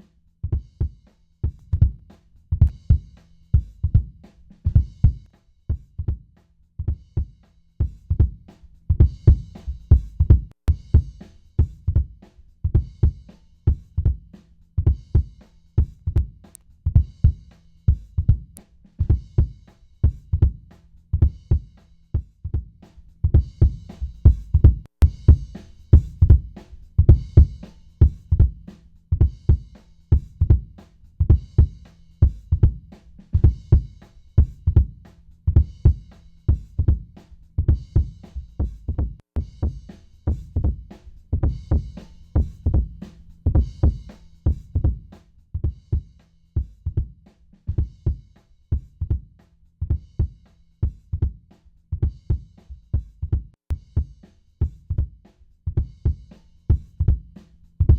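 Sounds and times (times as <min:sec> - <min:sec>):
drum kit beat: 0:00.0 - 0:57.9.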